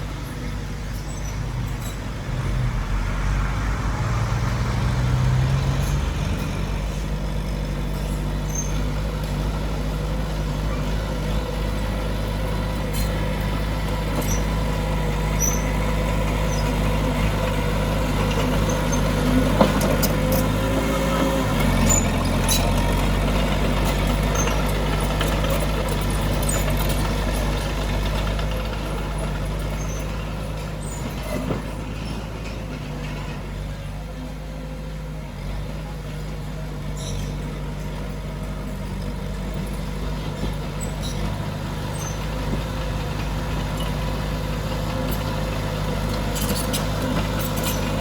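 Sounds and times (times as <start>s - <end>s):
diesel machinery running: 0.0s - 48.0s.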